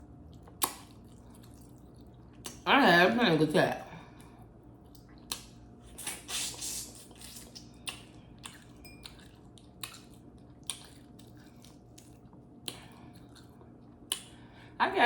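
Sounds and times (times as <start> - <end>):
chewing and wet mouth noises: 0.0 - 2.7, 4.0 - 14.7.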